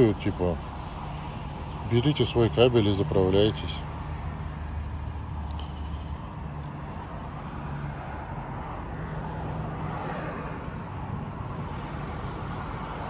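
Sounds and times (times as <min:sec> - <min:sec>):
road traffic hum: 0:00.0 - 0:13.0
vehicle passing: 0:00.0 - 0:13.0.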